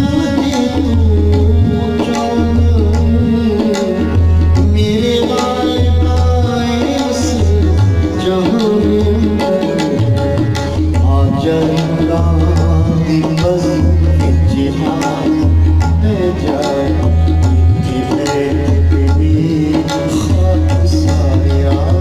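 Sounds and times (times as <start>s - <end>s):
harmonium chords: 0.0s - 22.0s
tabla rhythm: 0.0s - 22.0s.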